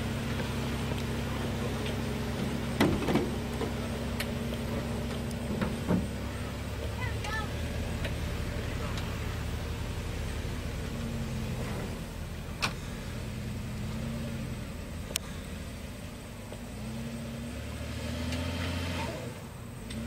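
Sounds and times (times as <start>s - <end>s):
vehicle engine running at low speed: 0.0s - 20.0s.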